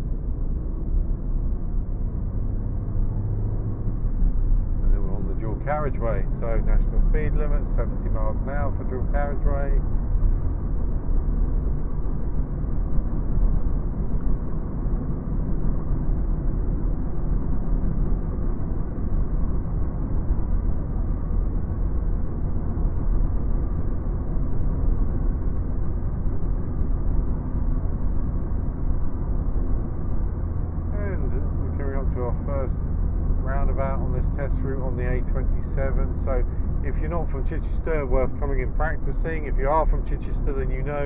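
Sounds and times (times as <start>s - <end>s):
car road noise: 0.0s - 41.0s.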